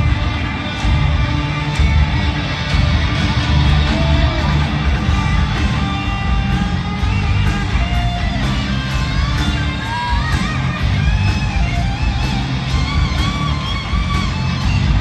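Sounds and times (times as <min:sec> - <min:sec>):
electric guitars with bent notes: 0:00.0 - 0:15.0
live hard rock band: 0:00.0 - 0:15.0.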